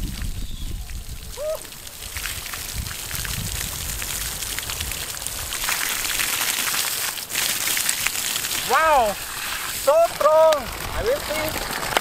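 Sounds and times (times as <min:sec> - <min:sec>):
water spray splattering on leaves: 0:00.0 - 0:11.6.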